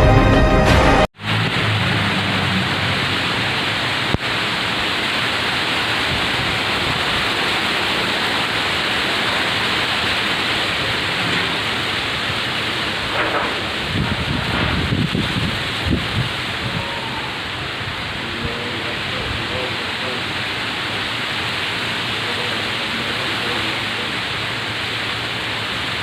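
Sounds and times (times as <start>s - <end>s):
strong wind blowing: 1.3s - 25.3s.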